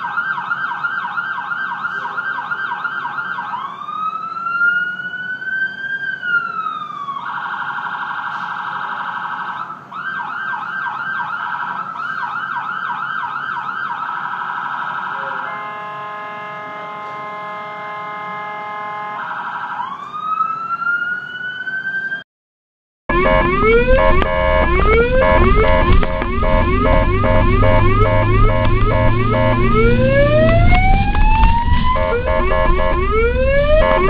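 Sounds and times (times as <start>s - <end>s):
ambulance siren: 0.0s - 22.2s, 23.1s - 34.0s.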